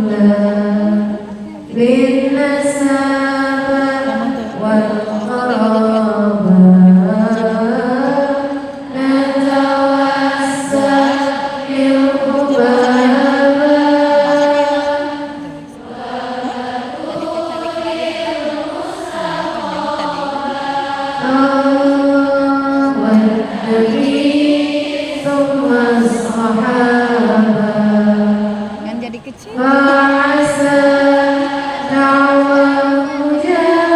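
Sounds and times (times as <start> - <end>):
person chanting unaccompanied: 0.0 - 33.9.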